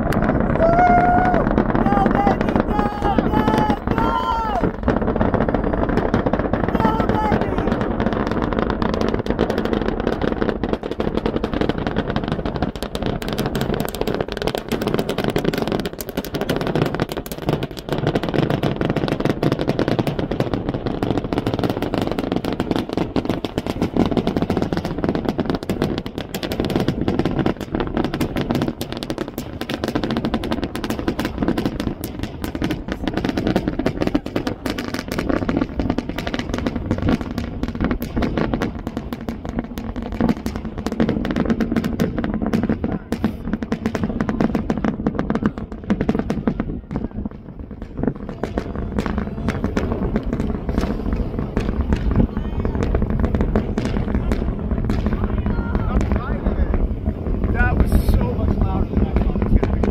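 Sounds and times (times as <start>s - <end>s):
rocket engines crackling rumble: 0.0s - 59.9s.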